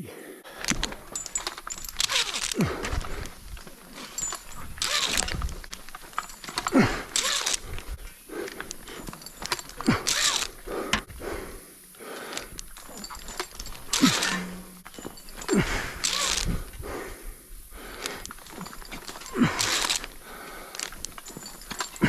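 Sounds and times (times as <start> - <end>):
person breathing hard: 0.0 - 22.0.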